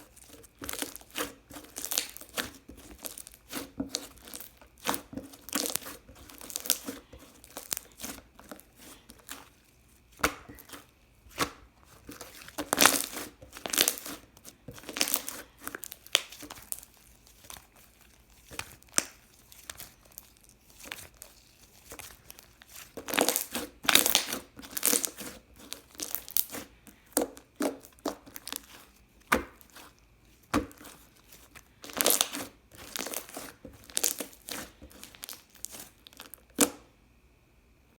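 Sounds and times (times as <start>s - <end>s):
slime squished by hand: 0.0s - 36.8s.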